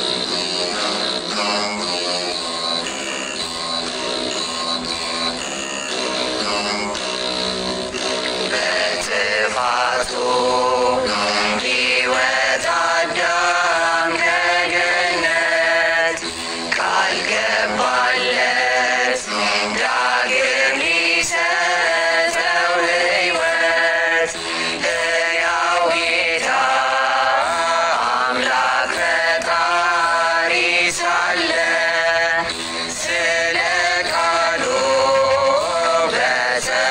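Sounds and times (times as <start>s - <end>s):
lyre: 0.0s - 36.9s
person singing chant-like melody: 0.0s - 36.9s.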